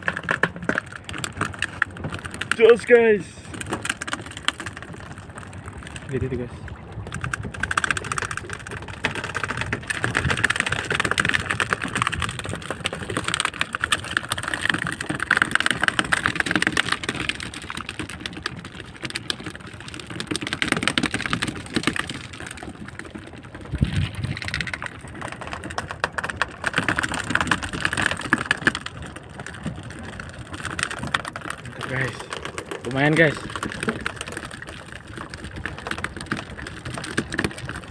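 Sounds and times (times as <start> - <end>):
fish splashing: 0.0 - 37.9.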